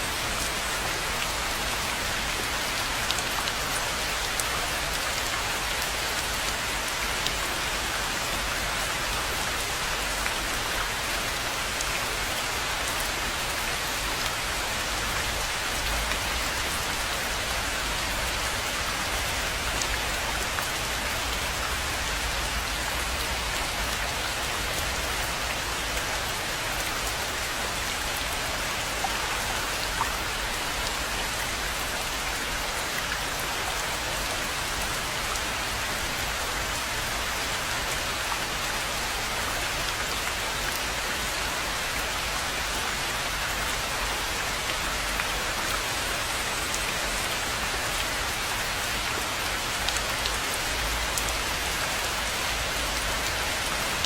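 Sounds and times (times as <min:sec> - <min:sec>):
rain falling on a pond: 0:00.0 - 0:54.0.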